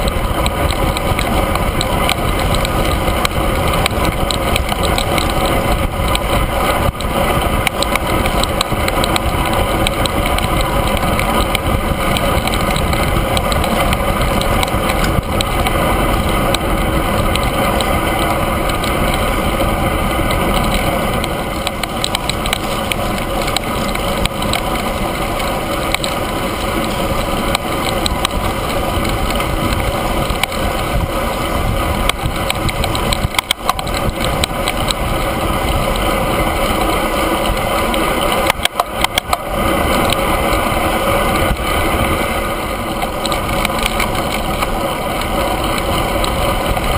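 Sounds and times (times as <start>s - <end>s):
tyres humming on asphalt: 0.0s - 46.9s
wind rushing over microphone: 0.0s - 46.9s.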